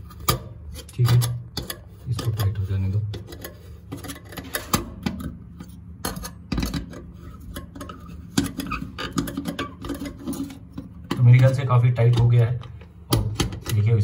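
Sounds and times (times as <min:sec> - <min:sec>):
metal clicks and scraping: 0:00.0 - 0:14.0.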